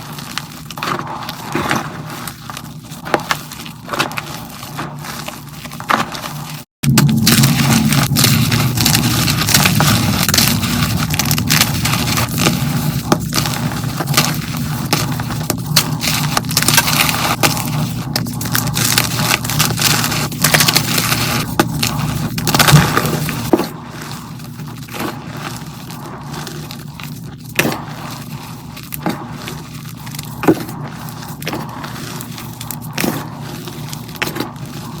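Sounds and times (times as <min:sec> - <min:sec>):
chalk crunching by hand: 0:00.0 - 0:35.0.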